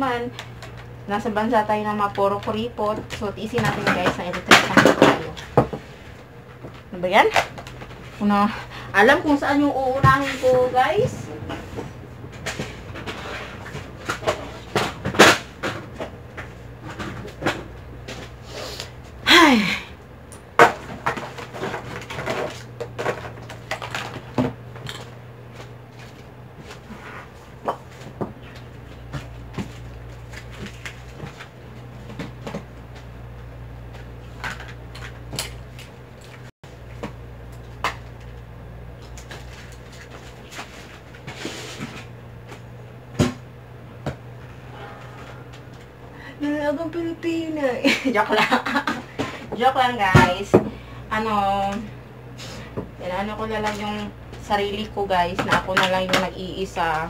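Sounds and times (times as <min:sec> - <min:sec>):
electric fan hum: 0:00.0 - 0:57.0.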